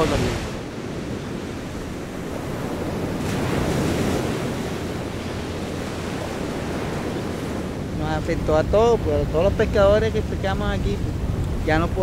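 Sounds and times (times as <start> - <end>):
sea waves washing onto shore: 0.0 - 12.0
wind buffeting microphone: 0.0 - 12.0.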